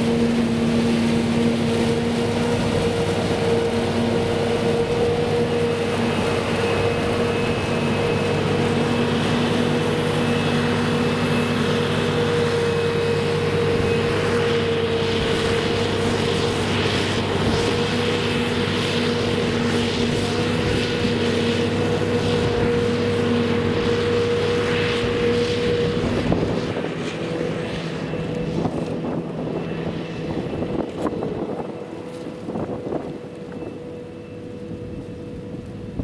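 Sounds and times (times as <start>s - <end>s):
heavy engine: 0.0s - 36.0s
high steady whine: 0.0s - 36.0s.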